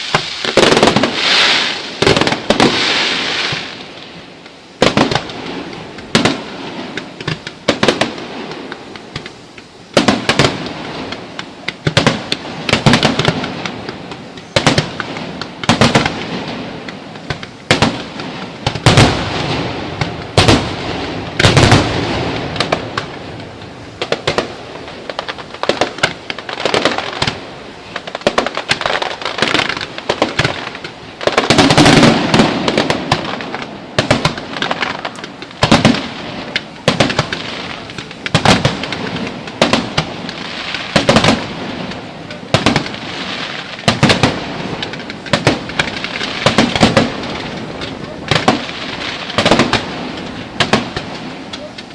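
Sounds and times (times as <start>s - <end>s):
fireworks bursting: 0.0s - 51.9s
fireworks crackling: 0.0s - 51.9s.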